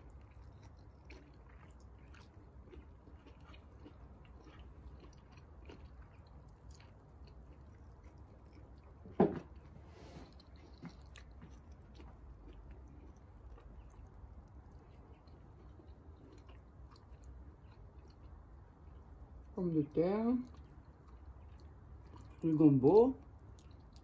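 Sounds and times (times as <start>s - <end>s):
chewing and wet mouth clicks: 0.0s - 9.7s, 10.3s - 19.6s, 20.4s - 22.6s, 23.2s - 24.0s.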